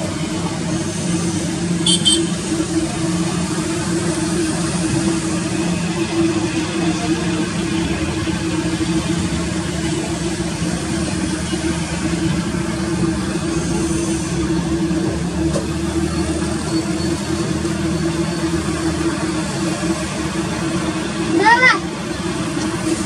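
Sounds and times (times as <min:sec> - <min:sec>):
jet engines droning: 0:00.0 - 0:23.0.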